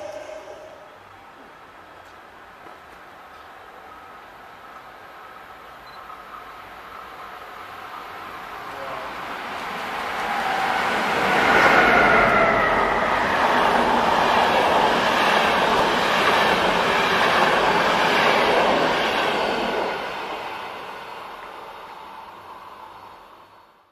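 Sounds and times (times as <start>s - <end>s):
train rushing past: 0.0s - 1.9s, 3.6s - 23.8s.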